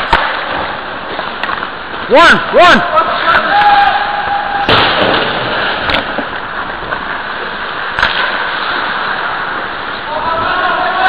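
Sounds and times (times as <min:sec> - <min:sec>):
skates scraping on ice: 0:00.0 - 0:03.8, 0:04.8 - 0:11.0.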